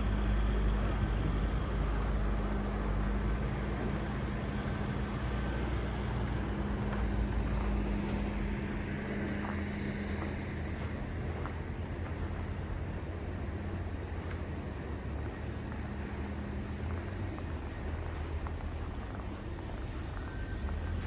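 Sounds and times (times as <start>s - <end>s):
street noise: 0.0s - 21.0s
vehicle engine humming: 0.0s - 21.0s.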